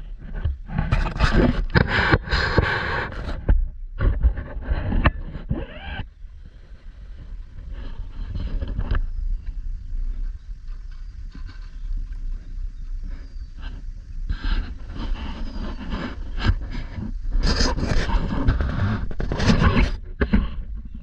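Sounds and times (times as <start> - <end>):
rushing scraping noise: 0.0 - 12.4, 13.0 - 20.7
wind rumbling on microphone: 0.0 - 21.0.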